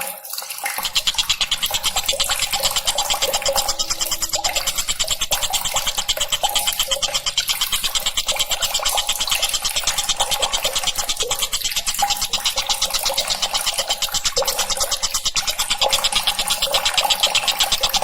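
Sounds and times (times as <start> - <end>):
kingfisher rattling trill: 0.8 - 18.0.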